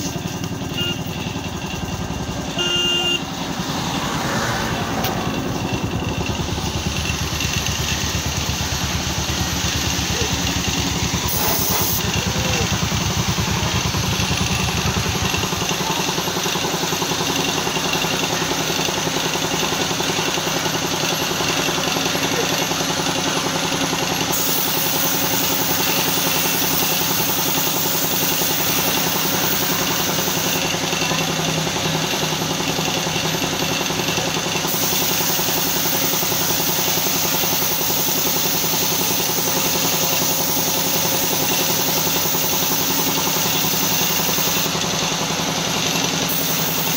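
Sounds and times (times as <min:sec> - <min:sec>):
air compressor pulsing: 0:00.0 - 0:46.9.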